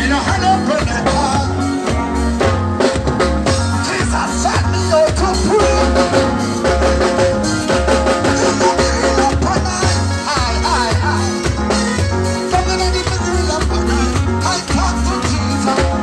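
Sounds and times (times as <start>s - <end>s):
band music with heavy bass: 0.0s - 16.0s.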